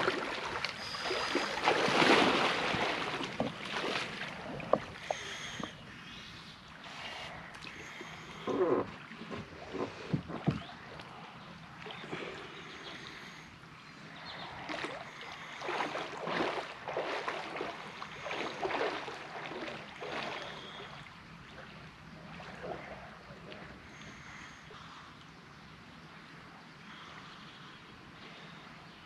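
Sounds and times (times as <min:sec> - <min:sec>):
water sloshing around a boat: 0:00.0 - 0:25.0.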